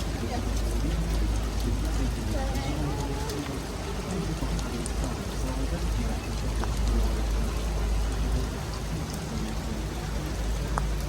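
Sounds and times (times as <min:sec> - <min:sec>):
faint voices: 0:00.0 - 0:11.0
heavy rain falling: 0:00.0 - 0:11.0.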